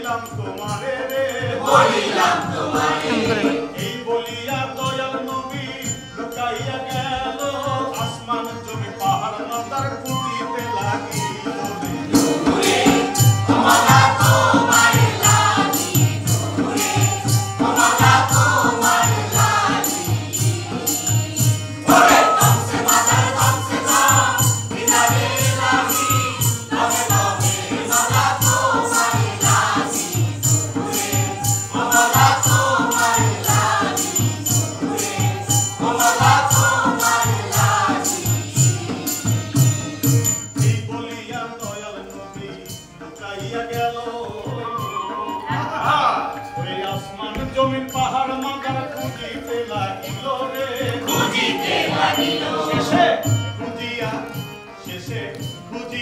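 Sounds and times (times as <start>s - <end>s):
fast percussion beat: 0.0s - 56.0s
performers singing in chorus: 0.0s - 56.0s.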